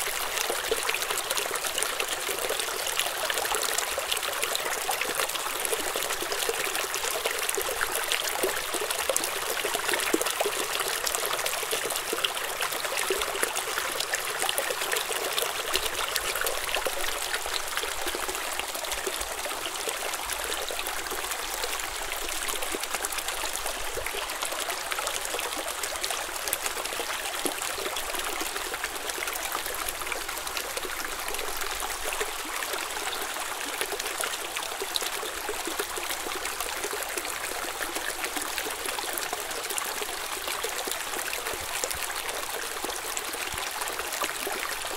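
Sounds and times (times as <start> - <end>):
stream trickling over stones: 0.0 - 44.9.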